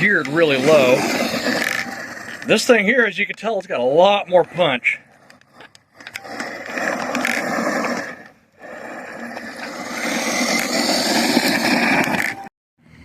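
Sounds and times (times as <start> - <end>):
electric motor and gears whirring: 0.0 - 13.0.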